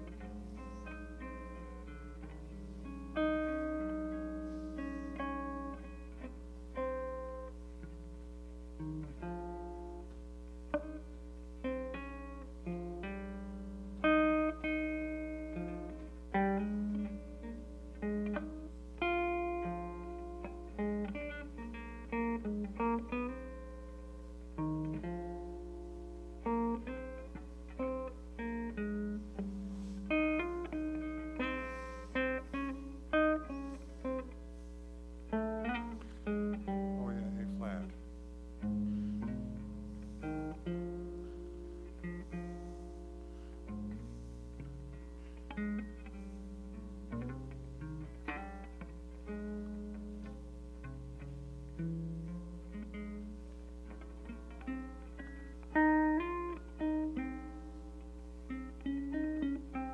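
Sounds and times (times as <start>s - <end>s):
electric guitar solo: 0.0s - 59.9s
steady low hum: 0.0s - 59.9s.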